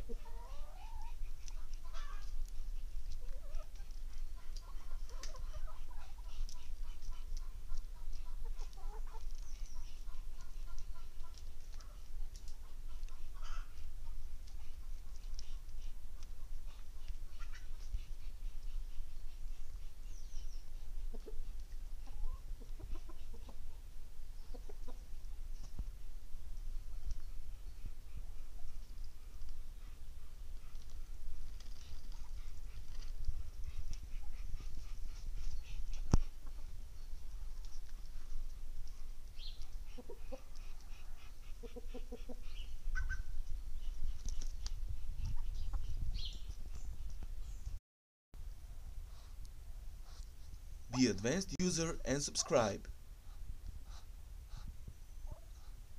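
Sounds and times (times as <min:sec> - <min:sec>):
chickens clucking: 0:00.0 - 0:47.2, 0:50.9 - 0:55.8.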